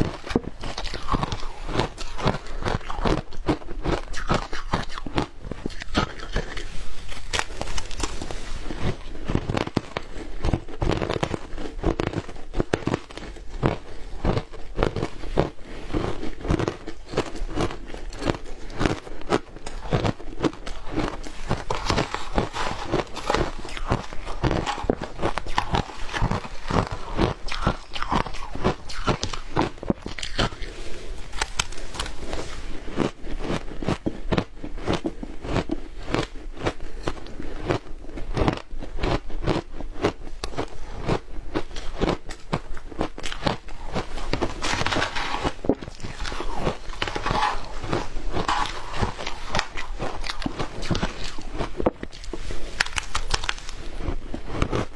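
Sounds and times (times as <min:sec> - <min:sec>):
shaved ice crunching being chewed: 0:00.0 - 0:54.9.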